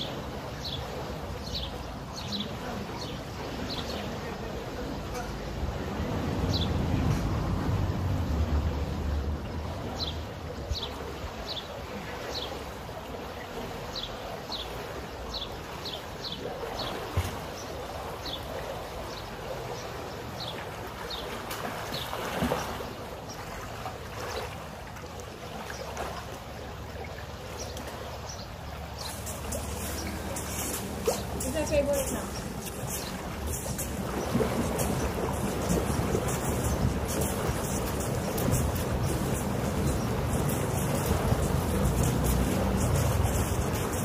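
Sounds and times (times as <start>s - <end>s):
splashing: 0.0s - 44.0s
water sloshing from swimming: 0.0s - 44.0s.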